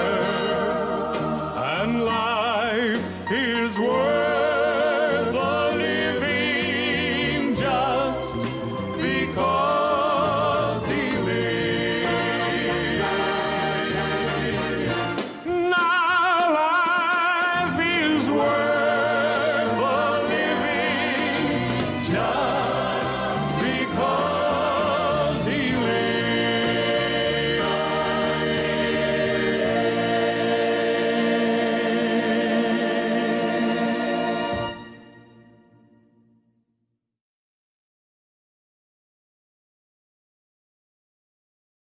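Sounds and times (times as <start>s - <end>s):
gospel singing with accompaniment: 0.0s - 35.5s.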